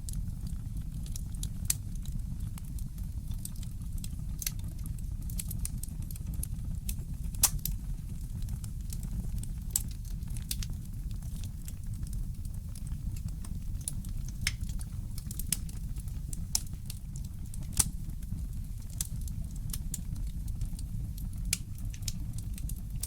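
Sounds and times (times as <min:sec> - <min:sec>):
low fire rumble: 0:00.0 - 0:23.0
fireplace crackling: 0:00.8 - 0:04.7, 0:05.3 - 0:23.0
sharp snaps and pops: 0:02.6 - 0:23.0.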